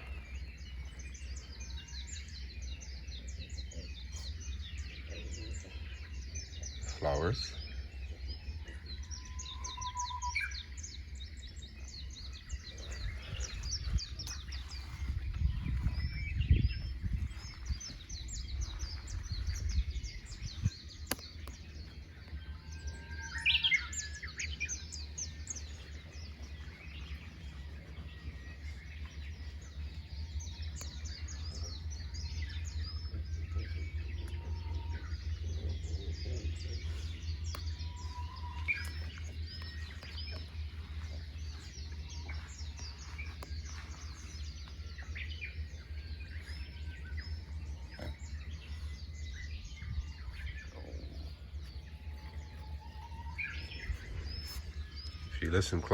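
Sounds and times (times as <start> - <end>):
birds chirping and singing: 0.0 - 55.9
low rumble: 0.0 - 55.9.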